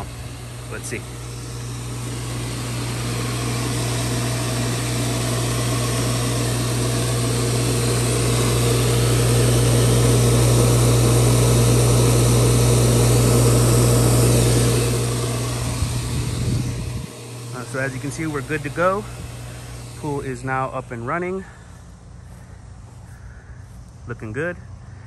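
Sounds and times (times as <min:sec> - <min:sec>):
pool pump motor humming: 0:00.0 - 0:25.0.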